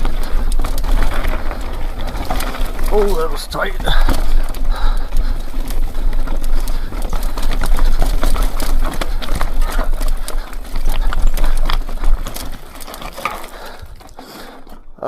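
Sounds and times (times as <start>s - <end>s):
mountain bike rattling over rock: 0.0s - 15.0s.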